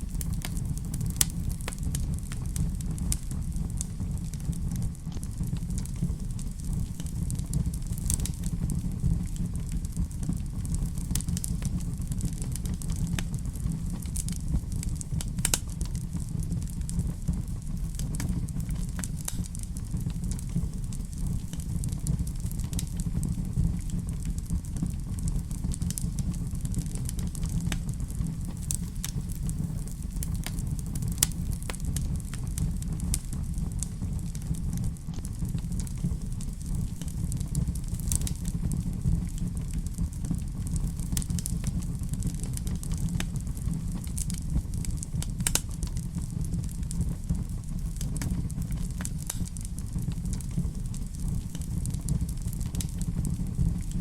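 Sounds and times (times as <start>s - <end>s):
wood fire burning: 0.0s - 54.0s.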